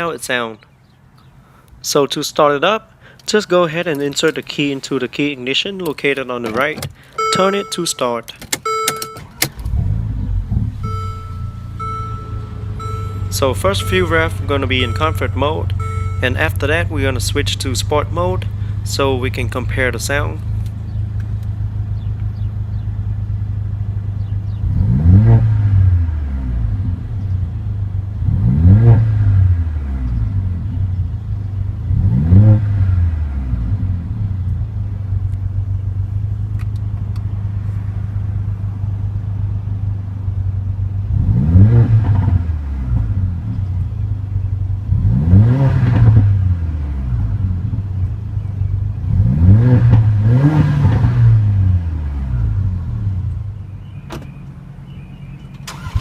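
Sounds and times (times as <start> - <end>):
car engine idling and revving: 8.4 - 56.0.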